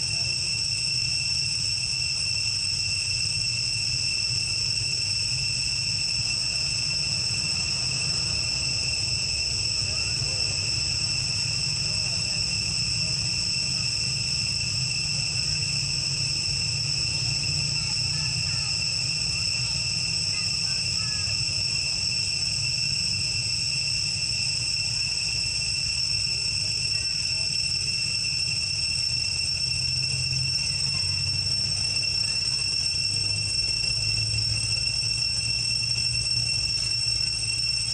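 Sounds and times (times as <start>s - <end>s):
insects whining high-pitched: 0.0s - 37.9s.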